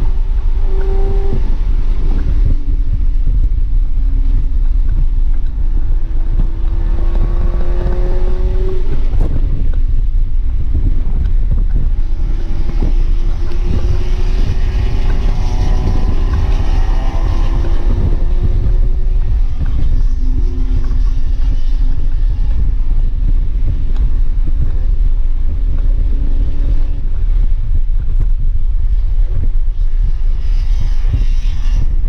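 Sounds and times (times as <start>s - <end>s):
car engine accelerating: 0.0s - 28.3s
road and wind rumble: 0.0s - 32.0s.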